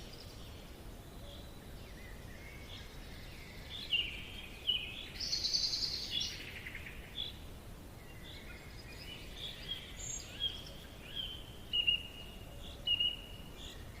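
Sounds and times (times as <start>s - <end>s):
birds chirping: 0.0s - 14.0s
soft steady background hiss: 0.0s - 14.0s.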